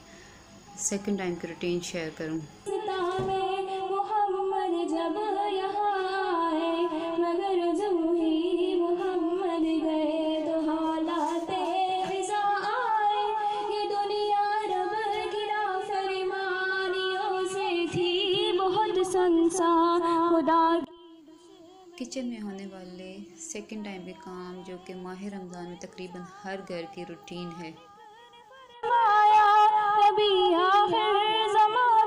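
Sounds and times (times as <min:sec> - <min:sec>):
woman singing slow melody: 0:02.2 - 0:32.0.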